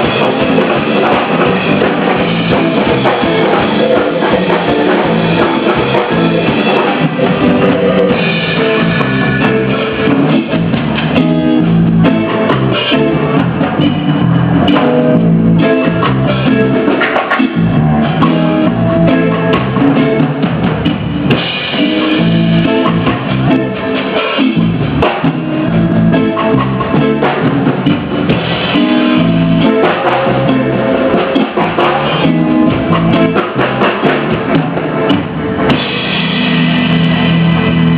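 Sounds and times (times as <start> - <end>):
band with drums and guitar: 0.0 - 37.9.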